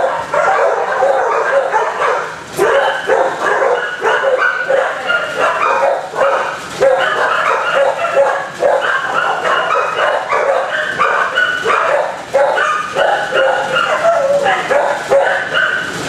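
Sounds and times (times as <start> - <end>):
many dogs barking: 0.0 - 16.0.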